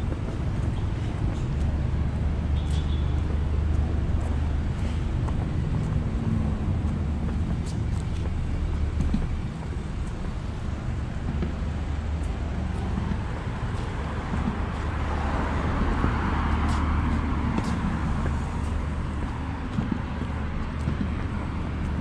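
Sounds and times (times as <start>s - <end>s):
cars passing with low rumble: 0.0s - 22.0s.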